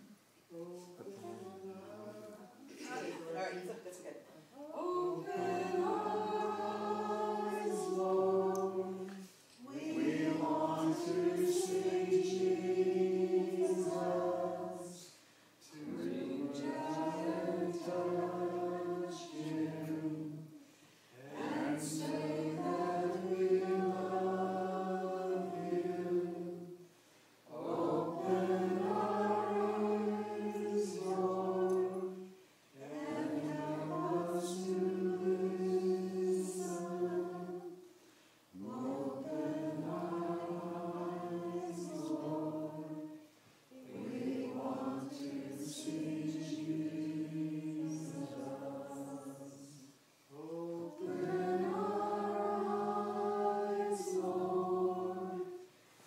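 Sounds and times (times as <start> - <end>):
church choir singing unaccompanied: 0.0 - 56.0.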